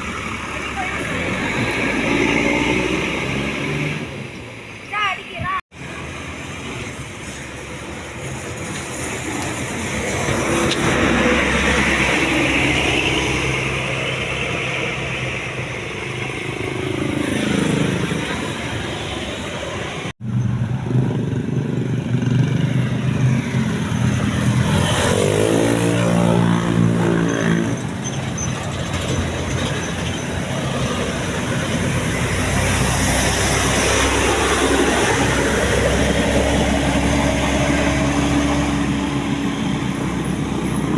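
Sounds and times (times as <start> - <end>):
buses driving past: 0.0 - 40.9.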